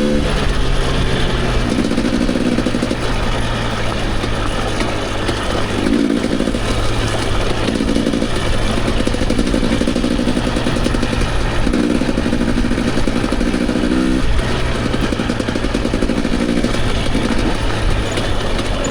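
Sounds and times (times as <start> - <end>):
clatter and rush: 0.0 - 18.9
dirt bike engine revving: 0.0 - 18.9.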